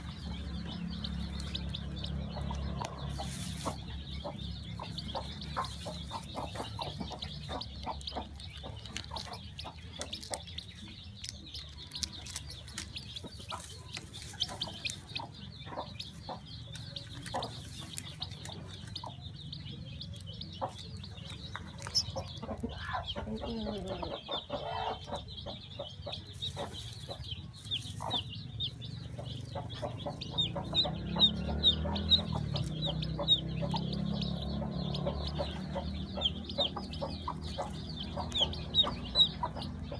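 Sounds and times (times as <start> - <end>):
chick peeping: 0.0 - 39.9.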